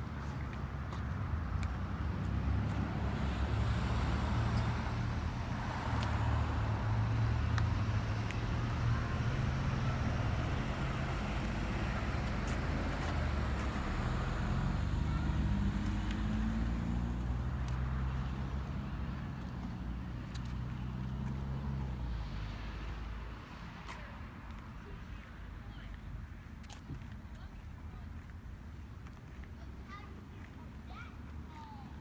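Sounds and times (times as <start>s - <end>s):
cars passing: 0.0s - 26.6s
steady low traffic rumble: 0.0s - 32.0s.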